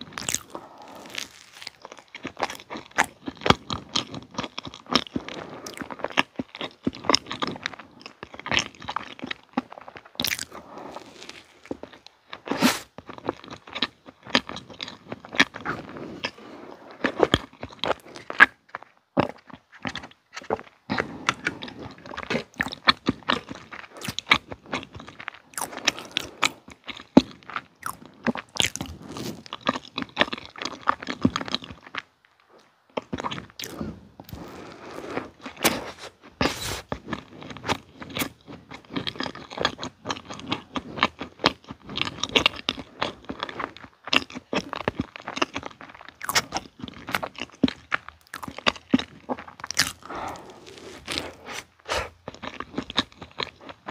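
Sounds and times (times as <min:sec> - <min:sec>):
chewing with mouth clicks: 0:00.1 - 0:34.6, 0:35.2 - 0:53.9.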